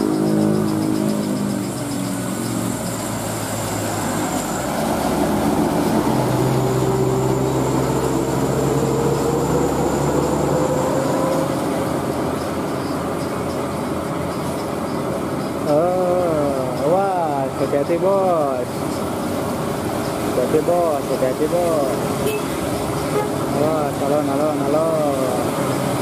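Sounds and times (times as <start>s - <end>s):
diesel truck engine pulling uphill: 0.0s - 26.0s.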